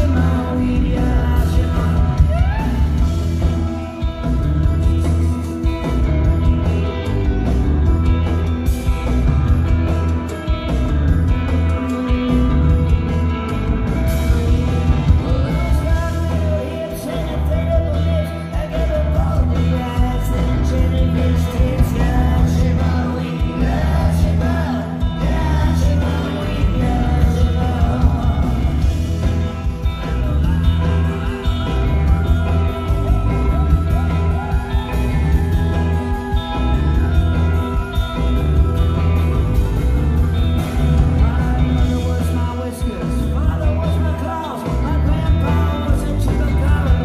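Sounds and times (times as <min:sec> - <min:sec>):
person singing: 0:00.0 - 0:08.4, 0:11.5 - 0:47.0
bass guitar: 0:00.0 - 0:47.0
drums: 0:00.0 - 0:47.0
electric guitars: 0:00.0 - 0:47.0.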